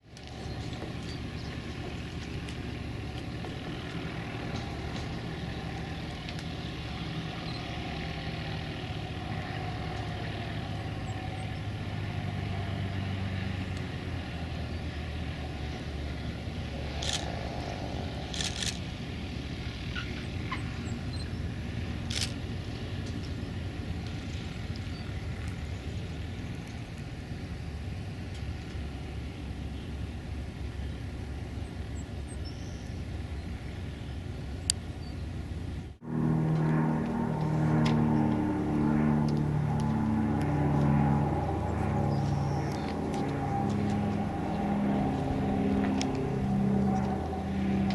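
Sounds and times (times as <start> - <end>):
airplane engine droning: 0.0 - 47.9.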